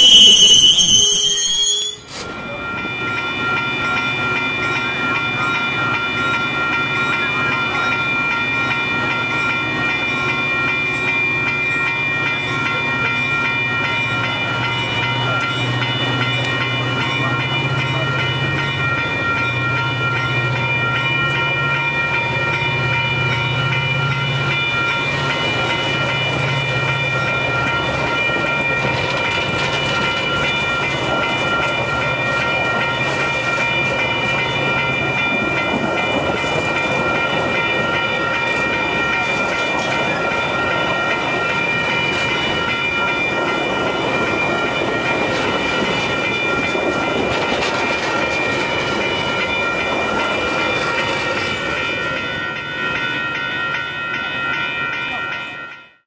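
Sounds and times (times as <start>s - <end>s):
train low rumble: 0.0s - 55.8s
train high whine: 0.0s - 56.0s.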